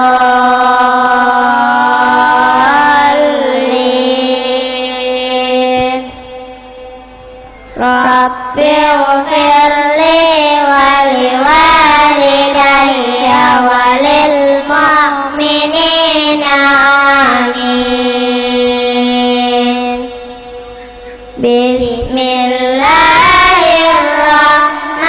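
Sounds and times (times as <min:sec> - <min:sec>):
children chanting over loudspeakers: 0:00.0 - 0:25.0.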